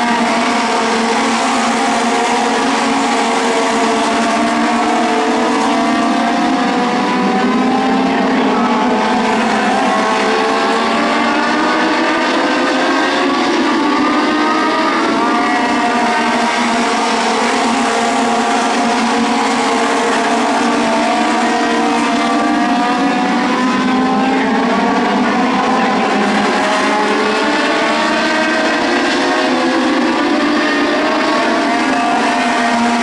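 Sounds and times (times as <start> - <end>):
race car engines at high revs: 0.0 - 33.0.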